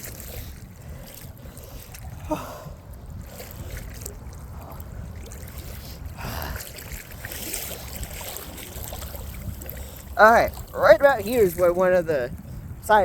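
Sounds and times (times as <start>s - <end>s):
water splashing around wading person: 0.0s - 13.0s.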